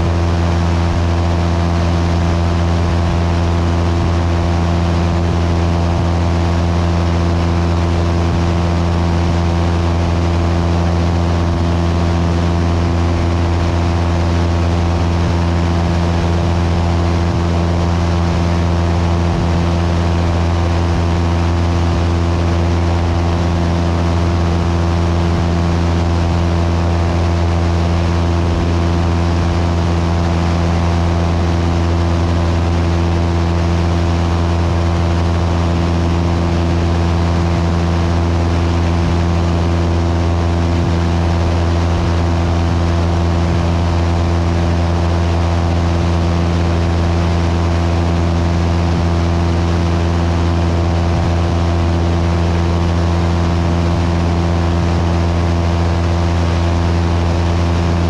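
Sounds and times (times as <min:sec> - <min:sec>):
propeller aircraft engine droning: 0:00.0 - 0:58.0.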